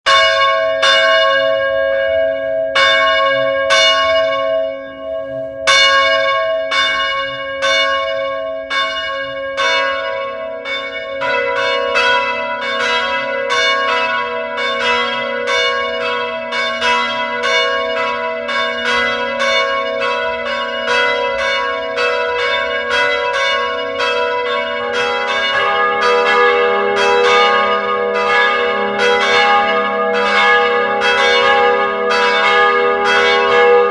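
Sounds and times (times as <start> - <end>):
church bells ringing: 0.1 - 33.9.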